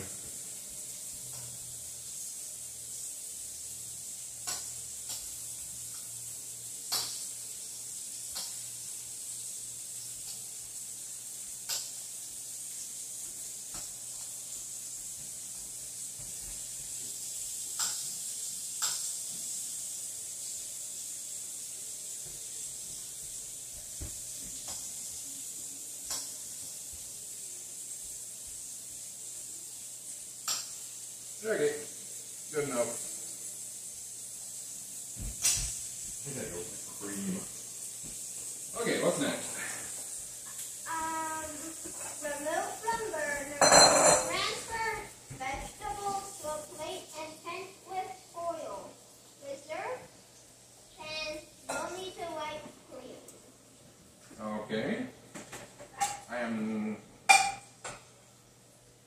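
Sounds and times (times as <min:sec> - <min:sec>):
mushrooms sizzling in a frying pan: 0:00.0 - 0:59.0.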